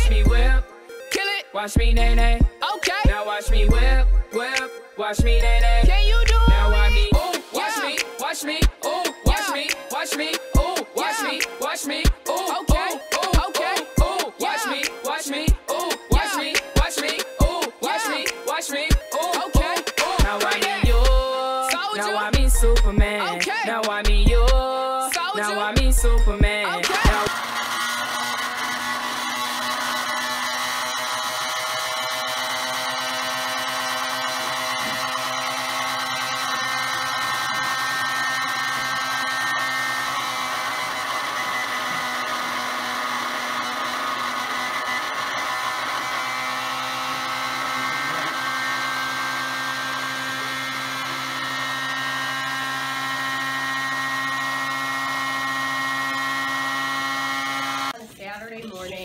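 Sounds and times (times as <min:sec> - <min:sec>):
blender motor whine: 0:01.8 - 0:58.0.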